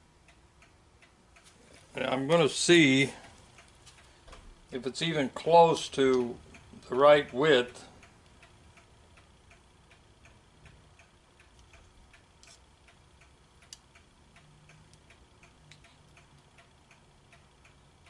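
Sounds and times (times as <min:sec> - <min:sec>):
clock ticking: 0:00.2 - 0:18.0.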